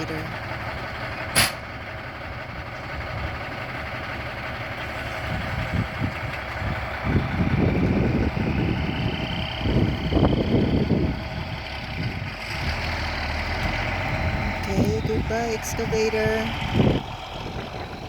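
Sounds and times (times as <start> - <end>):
truck engine idling and revving: 0.0 - 18.0.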